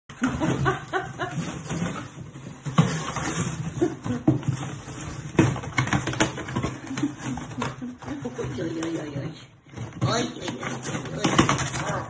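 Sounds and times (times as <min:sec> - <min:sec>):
dog scratching cardboard box: 0:01.3 - 0:12.0.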